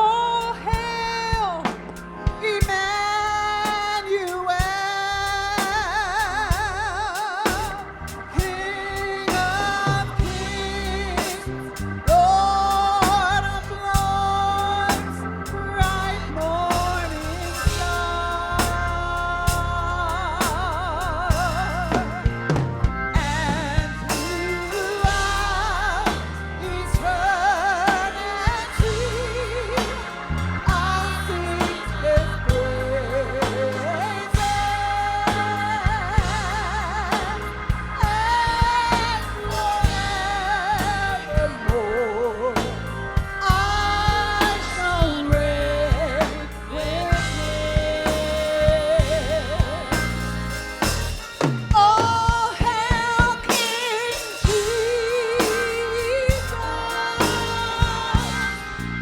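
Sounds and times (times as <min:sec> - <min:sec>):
drums: 0:00.0 - 0:59.0
steady bass line: 0:00.0 - 0:59.0.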